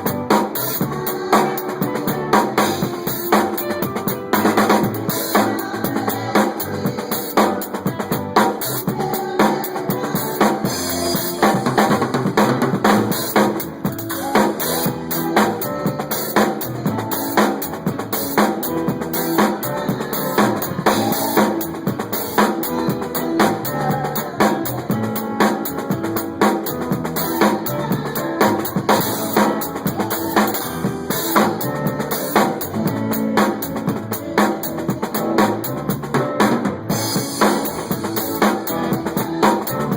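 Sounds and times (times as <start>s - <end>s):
drum kit playing a groove: 0.0s - 39.9s.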